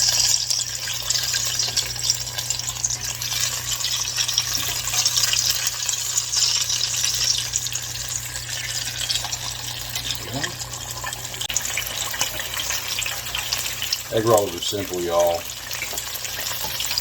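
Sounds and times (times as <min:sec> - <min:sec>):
food frying in hot oil: 0:00.0 - 0:17.0.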